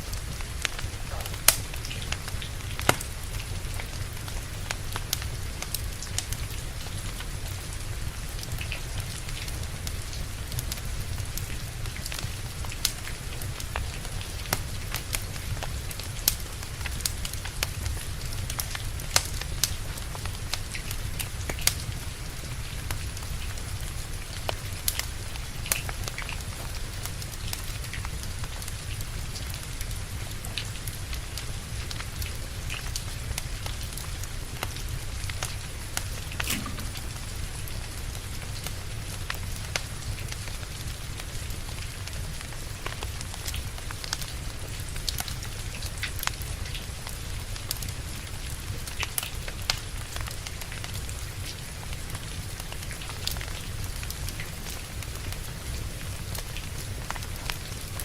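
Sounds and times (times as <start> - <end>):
rain hissing: 0.0 - 49.3
wood fire crackling: 0.0 - 58.0.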